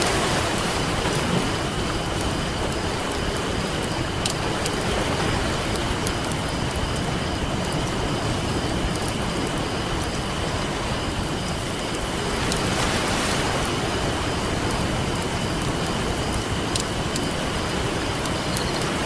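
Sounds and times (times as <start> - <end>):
campfire crackling: 0.0 - 19.0
ocean surf: 0.0 - 19.0.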